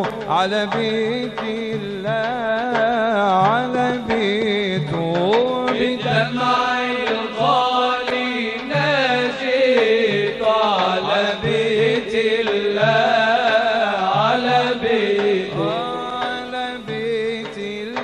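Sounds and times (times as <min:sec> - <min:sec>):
low repeating accompaniment: 0:00.0 - 0:18.0
man singing religious chant: 0:00.0 - 0:18.0.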